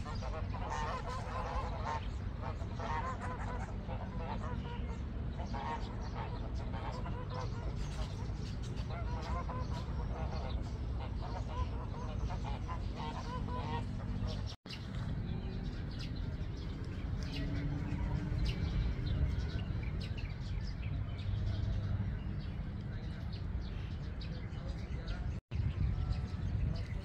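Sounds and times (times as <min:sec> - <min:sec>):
birds calling: 0:00.0 - 0:27.0
low background rumble: 0:00.0 - 0:27.0.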